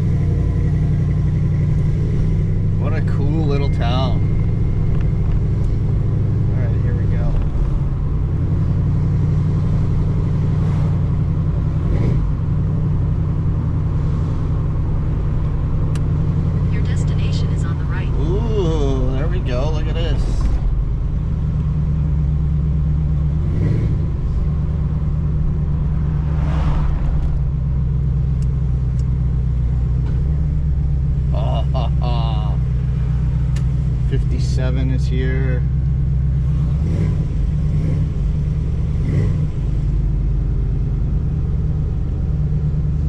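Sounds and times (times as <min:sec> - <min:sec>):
car engine drone: 0:00.0 - 0:43.0
road noise: 0:00.0 - 0:43.0.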